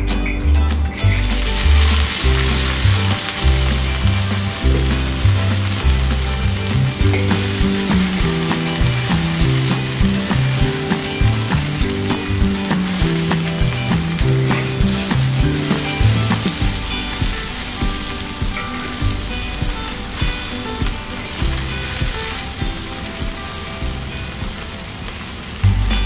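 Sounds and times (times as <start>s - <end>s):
background music with bass line: 0.0s - 26.0s
cabbage sizzling in a wok: 1.0s - 26.0s.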